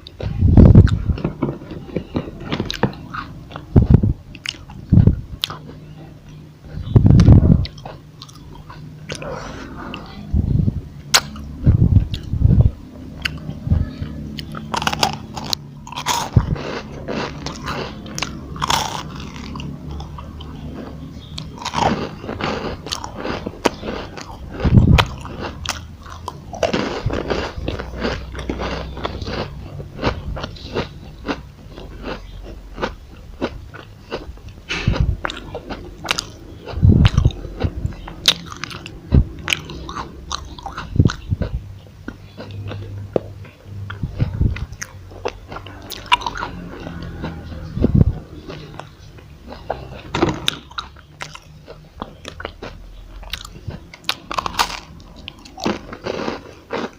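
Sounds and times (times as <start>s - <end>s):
crunchy chewing: 0.0s - 10.2s, 11.1s - 56.9s.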